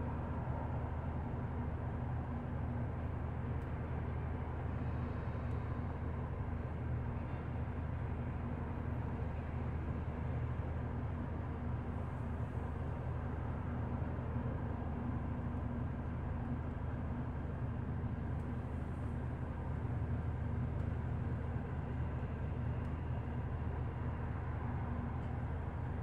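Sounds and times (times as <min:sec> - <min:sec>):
bus engine hum: 0:00.0 - 0:26.0.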